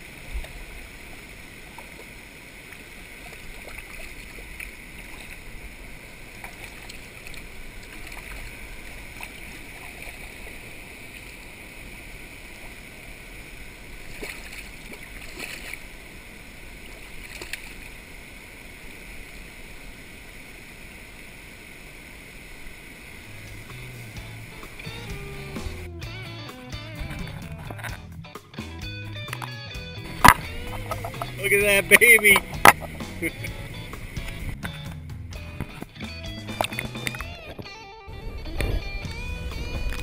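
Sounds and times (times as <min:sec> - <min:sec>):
creek water flowing: 0:00.0 - 0:40.0.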